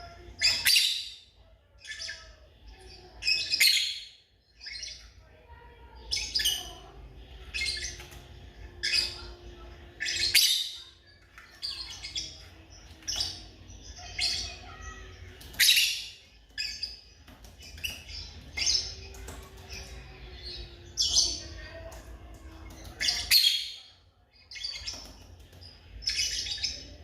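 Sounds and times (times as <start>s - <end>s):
lovebirds chirping: 0.0s - 27.0s.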